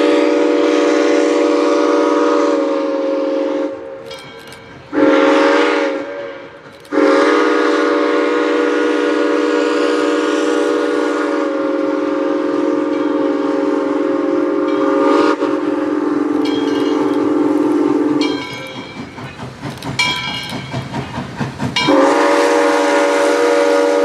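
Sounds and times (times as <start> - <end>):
steam whistle blasts: 0.0 - 4.1, 4.9 - 18.6, 21.8 - 24.0.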